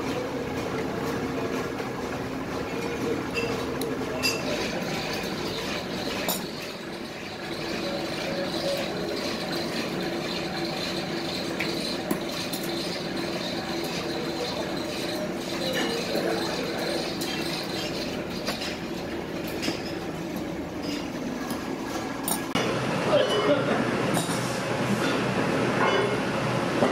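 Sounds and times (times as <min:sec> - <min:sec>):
machine humming: 0:00.0 - 0:23.1.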